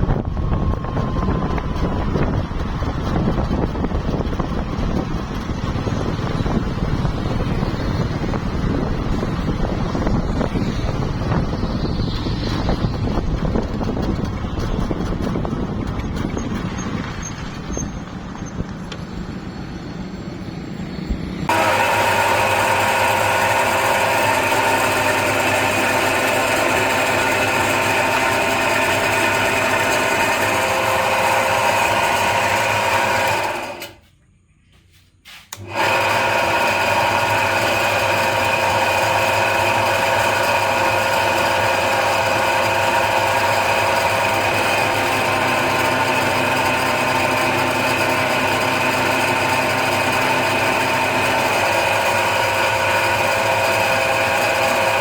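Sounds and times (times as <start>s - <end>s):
machine motor whining: 0.0s - 34.1s, 35.5s - 55.0s.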